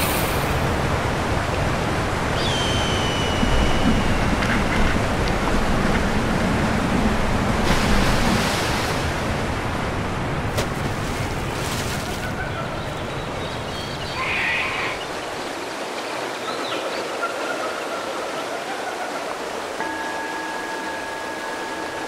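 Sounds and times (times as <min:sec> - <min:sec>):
churning water rushing: 0:00.0 - 0:22.0.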